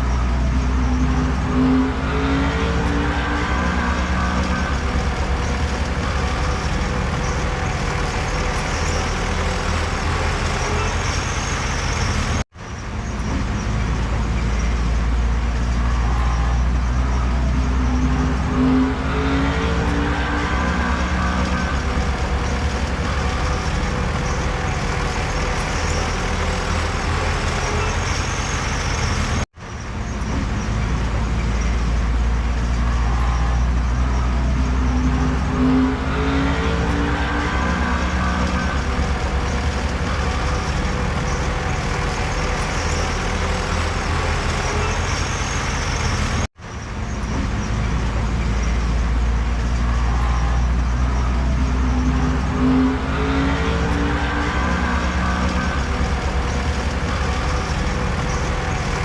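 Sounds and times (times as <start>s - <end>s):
diesel machinery engine under load: 0.0s - 59.0s.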